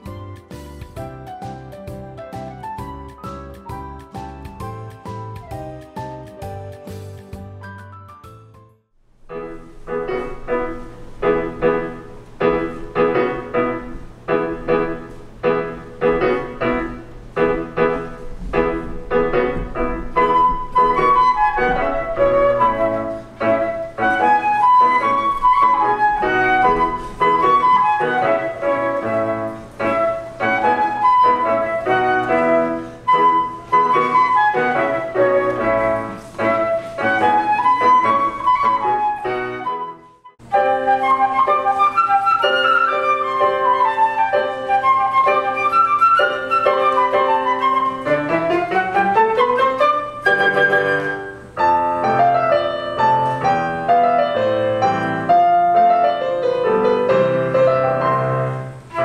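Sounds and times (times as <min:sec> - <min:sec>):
piano chords: 0:00.0 - 0:59.0
flute melody: 0:09.3 - 0:59.0.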